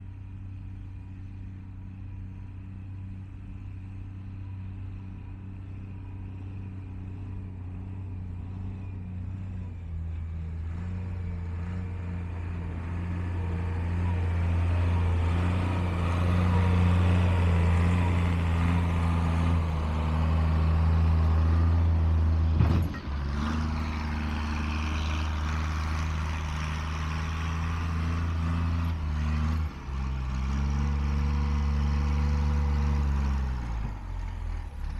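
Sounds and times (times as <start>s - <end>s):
wheel loader engine running: 3.2s - 34.9s.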